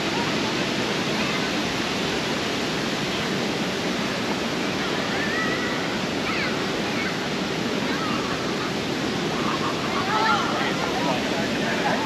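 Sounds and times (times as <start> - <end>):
fountain water rushing: 0.0 - 12.0.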